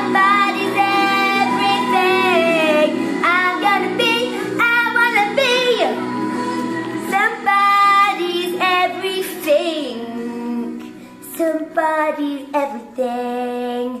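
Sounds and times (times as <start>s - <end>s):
woman singing slow song: 0.0s - 14.0s.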